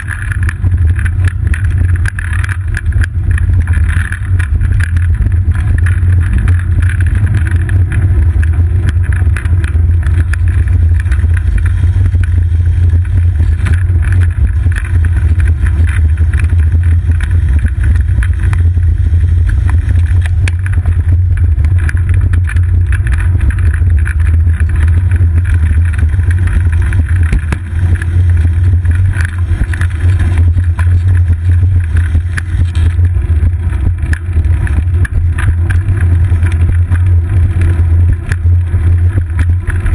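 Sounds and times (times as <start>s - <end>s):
bicycle riding vibration: 0.0s - 39.9s
wind rumble: 0.0s - 39.9s.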